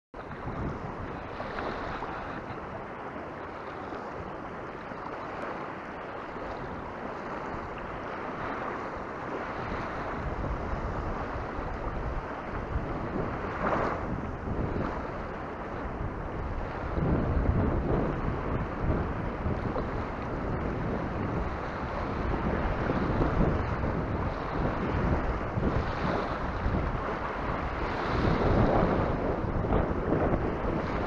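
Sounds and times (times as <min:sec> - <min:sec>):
small waves lapping on rocky shore: 0:00.2 - 0:31.0
wind rumbling on microphone: 0:00.2 - 0:31.0.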